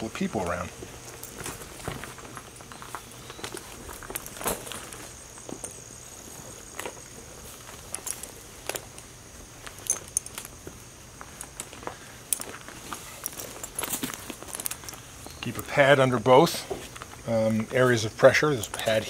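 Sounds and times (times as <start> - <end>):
high insect tone: 0.0 - 19.0
harness buckles clinking: 0.4 - 19.0.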